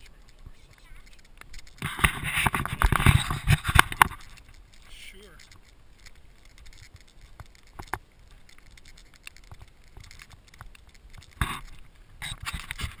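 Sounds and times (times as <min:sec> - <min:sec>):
brushing rustle: 0:00.0 - 0:13.0
footsteps on wet trail: 0:00.0 - 0:13.0
gear clicks and knocks: 0:00.0 - 0:13.0.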